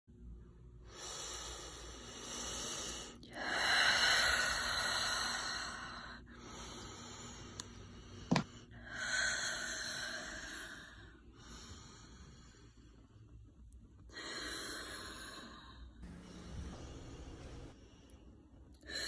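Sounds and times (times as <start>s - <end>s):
person breathing close to microphone: 0.9s - 13.4s, 14.1s - 19.0s.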